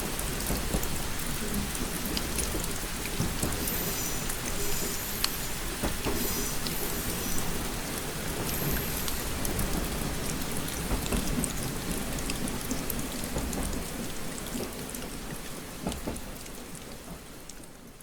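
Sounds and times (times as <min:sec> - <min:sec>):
raindrops ticking on window: 0:00.0 - 0:18.0
steady rain: 0:00.0 - 0:18.0.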